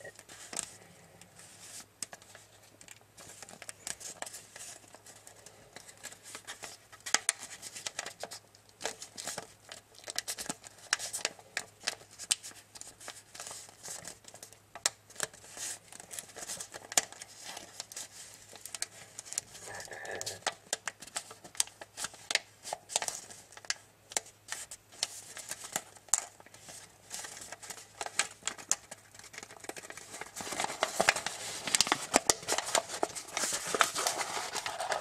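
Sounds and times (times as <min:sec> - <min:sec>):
foil paper crinkling: 0:00.0 - 0:35.0.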